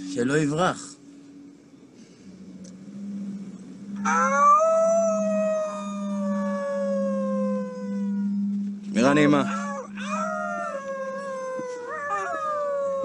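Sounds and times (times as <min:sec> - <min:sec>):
steady low hum: 0:00.0 - 0:13.0
long howl: 0:01.0 - 0:13.0.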